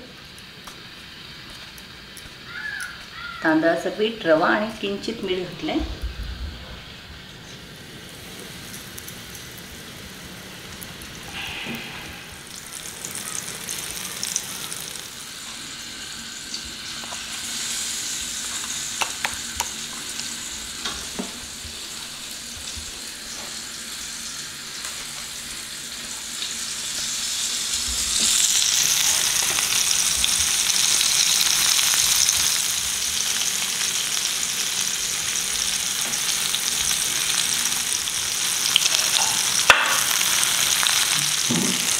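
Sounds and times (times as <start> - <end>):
fish frying in oil: 0.0 - 41.9.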